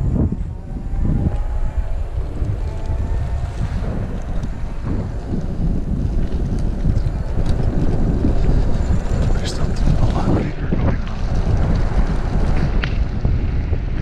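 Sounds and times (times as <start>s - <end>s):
electric motor whine: 0.0s - 13.0s
wind buffeting microphone: 0.0s - 14.0s.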